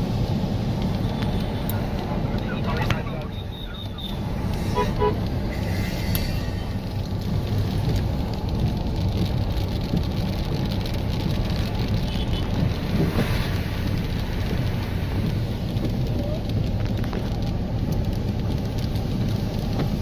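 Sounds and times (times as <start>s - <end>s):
car engine and tyres rumbling: 0.0s - 20.0s
water hissing under wheels: 0.0s - 20.0s.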